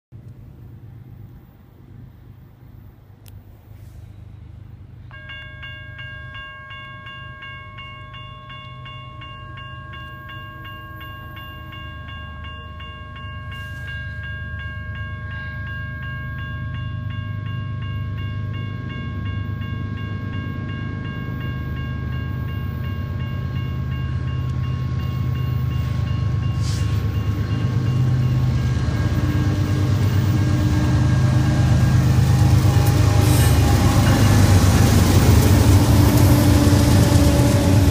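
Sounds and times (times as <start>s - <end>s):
freight train rumble: 0.1s - 37.9s
diesel locomotive engines droning: 0.2s - 37.9s
railroad crossing bell ringing: 4.8s - 37.9s.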